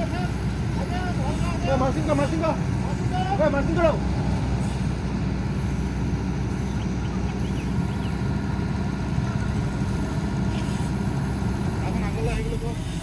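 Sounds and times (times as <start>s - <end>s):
heavy machine engine rumbling: 0.0s - 13.0s.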